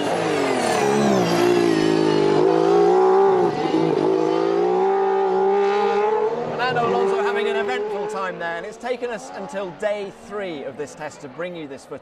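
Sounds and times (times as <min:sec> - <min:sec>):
racing car engine: 0:00.0 - 0:11.4.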